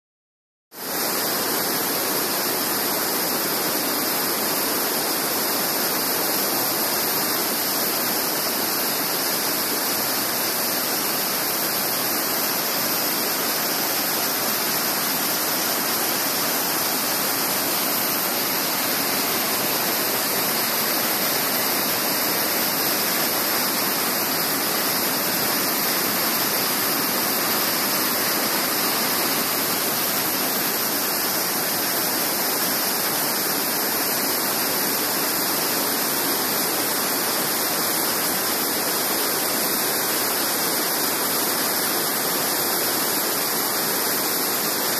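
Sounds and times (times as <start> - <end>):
waterfall roaring: 3.3 - 44.9.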